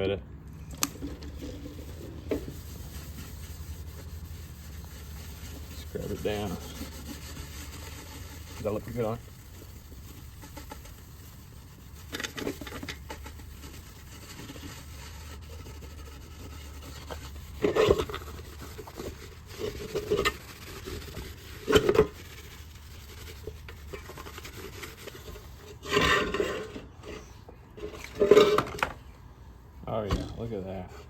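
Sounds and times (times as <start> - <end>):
low steady hum: 0.0 - 31.0
pad scrubbing metal hubcap: 0.8 - 26.8.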